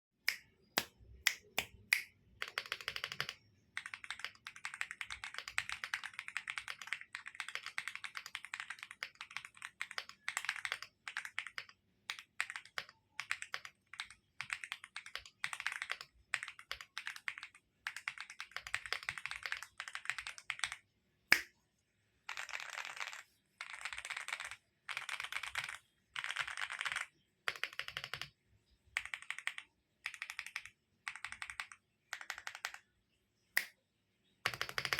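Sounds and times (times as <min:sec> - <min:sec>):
mechanical keyboard typing: 0:02.4 - 0:21.4, 0:22.3 - 0:28.4, 0:29.0 - 0:32.8, 0:34.4 - 0:34.9.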